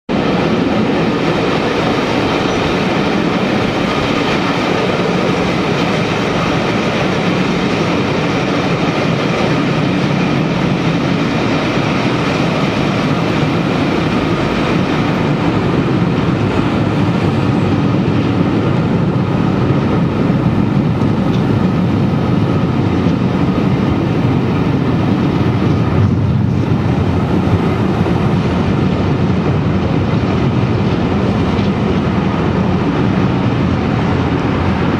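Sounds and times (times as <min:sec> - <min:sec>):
locomotive diesel engine drone: 0:00.1 - 0:34.9
train wheels rumbling on rail: 0:00.1 - 0:34.9.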